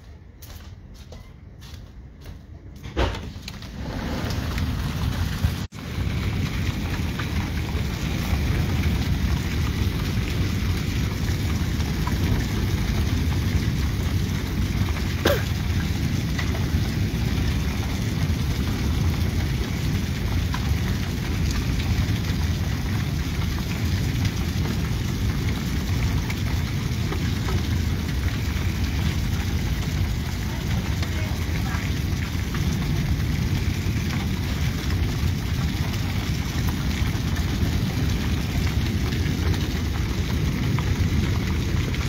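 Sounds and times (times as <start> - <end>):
heavy rain falling: 3.2 - 42.0.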